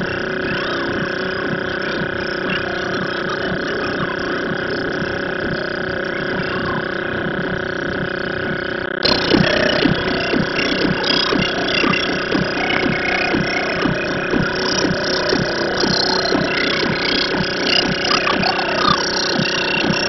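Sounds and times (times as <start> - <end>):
loud rough noise: 0.0 - 20.0
low thumps: 0.0 - 20.0
steady hum of fixed tones: 0.0 - 20.0.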